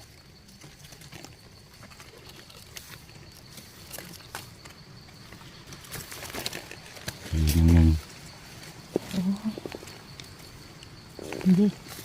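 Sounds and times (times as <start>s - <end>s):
rustling of dry leaf litter: 0.0s - 12.0s.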